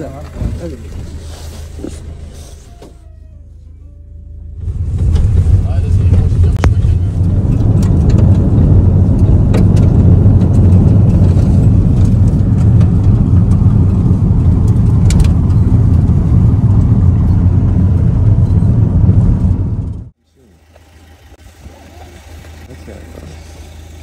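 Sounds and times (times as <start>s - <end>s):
van engine and road rumble: 0.0s - 24.0s.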